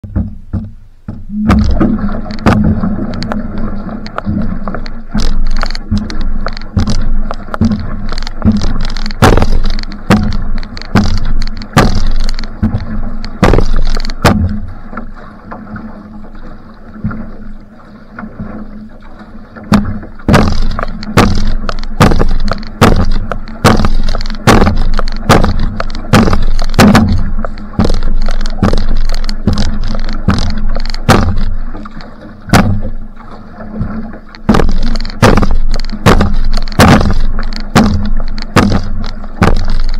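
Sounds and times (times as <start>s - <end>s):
paddle splashing strokes: 0.0s - 39.9s
water rumbling on hull: 0.0s - 39.9s.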